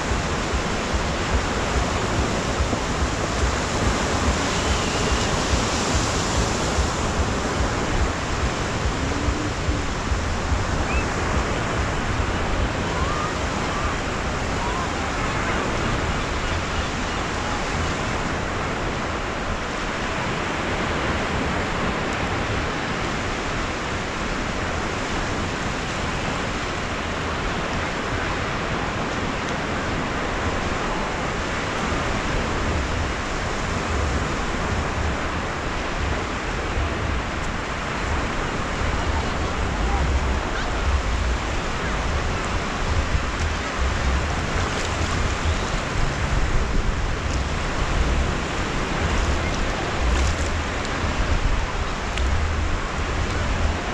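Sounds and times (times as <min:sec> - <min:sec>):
surf washing onto beach: 0:00.0 - 0:53.9
wind buffeting microphone: 0:00.0 - 0:53.9.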